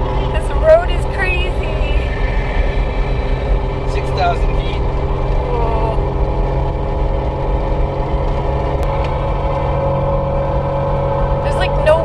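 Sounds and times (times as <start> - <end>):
vehicle engine and tyres droning: 0.0 - 12.0.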